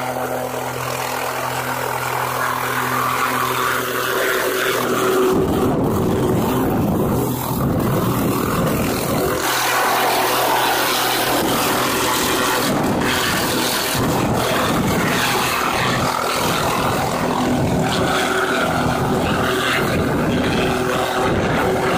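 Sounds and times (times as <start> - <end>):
helicopter turbine and rotor: 0.0 - 21.9.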